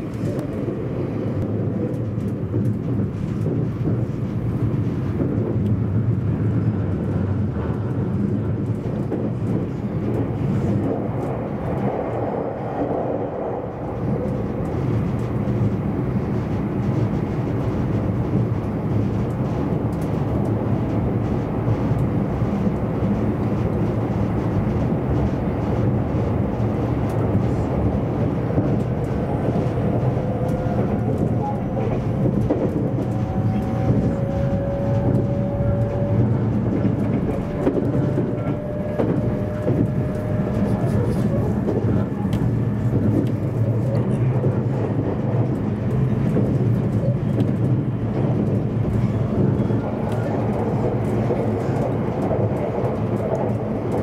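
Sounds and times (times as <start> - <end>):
train running gear rumble: 0.0 - 54.0.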